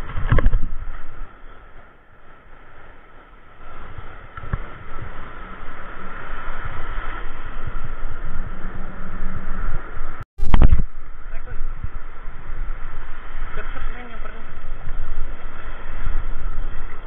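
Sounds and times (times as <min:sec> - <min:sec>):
surf washing over reef: 0:00.0 - 0:17.0
wind buffeting microphone: 0:00.0 - 0:17.0.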